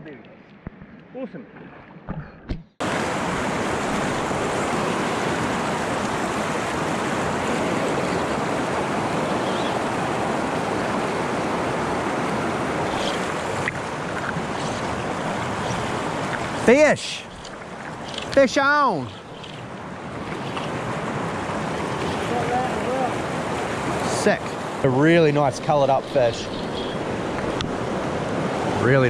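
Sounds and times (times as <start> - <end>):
river current rushing: 2.8 - 29.0.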